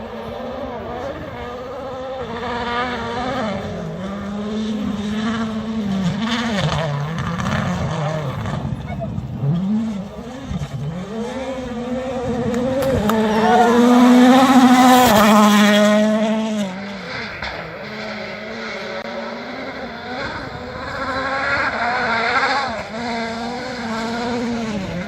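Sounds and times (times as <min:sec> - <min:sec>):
rally car engine at full throttle: 0:00.0 - 0:25.0.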